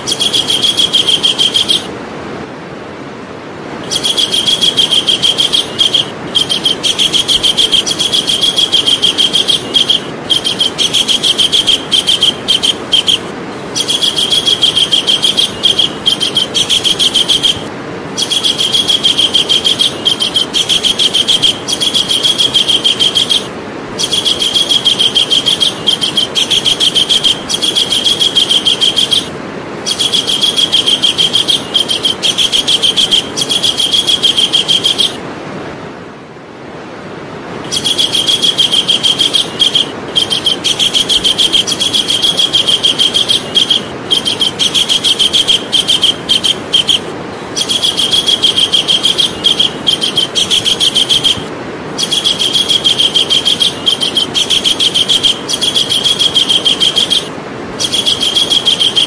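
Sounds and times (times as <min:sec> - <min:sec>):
kingfisher calling: 0:00.0 - 0:02.0, 0:03.8 - 0:35.2, 0:37.6 - 0:59.0.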